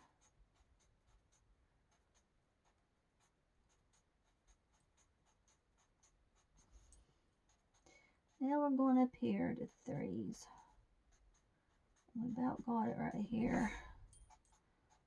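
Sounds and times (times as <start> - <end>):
coloring tool scratching on paper: 0.0 - 15.0.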